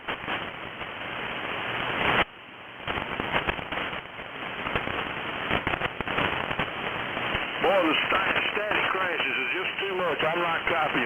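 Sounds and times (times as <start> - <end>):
radio static hiss: 0.0 - 11.0
static crackles and pops: 0.0 - 11.0.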